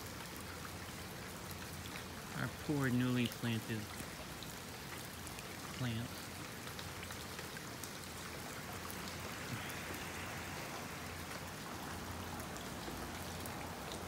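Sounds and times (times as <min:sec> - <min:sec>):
rain falling on water: 0:00.0 - 0:14.0.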